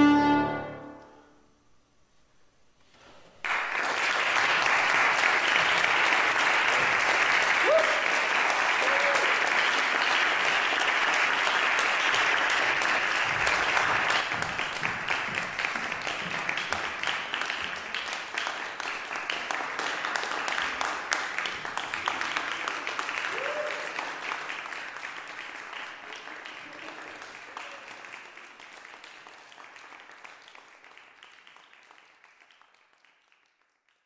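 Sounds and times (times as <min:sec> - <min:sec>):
audience applauding: 0:03.4 - 0:34.0.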